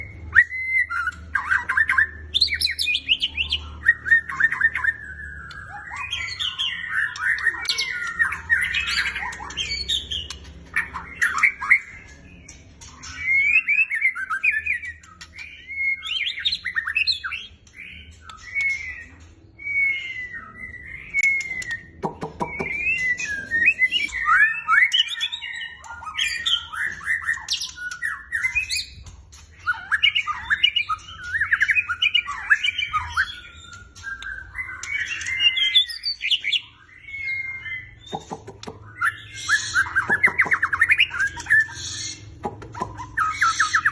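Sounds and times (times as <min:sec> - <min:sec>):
songbird singing varied song: 0:00.0 - 0:43.9.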